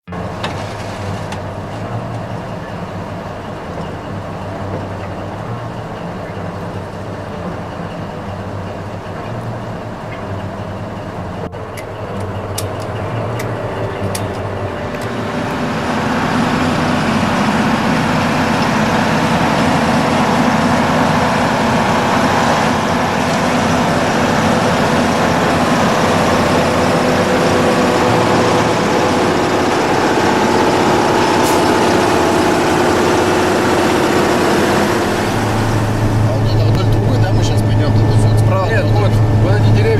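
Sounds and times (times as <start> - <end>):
tracked vehicle engine running: 0.0 - 39.9.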